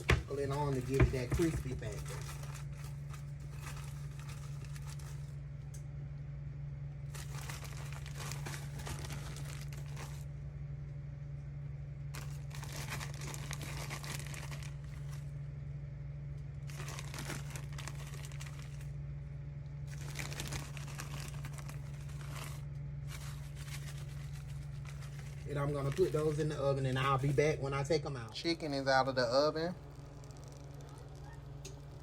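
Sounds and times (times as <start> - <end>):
bag crinkling and rustling: 0.0 - 5.6, 7.0 - 10.3, 12.1 - 15.4, 16.6 - 19.0, 19.8 - 32.0
steady low hum: 0.0 - 32.0.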